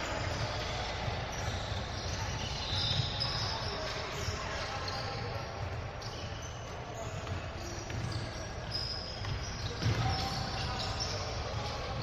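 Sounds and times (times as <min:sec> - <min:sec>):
shoe squeaks: 0:00.0 - 0:12.0
voices of players and spectators: 0:00.0 - 0:12.0
basketball bouncing on court: 0:00.1 - 0:12.0.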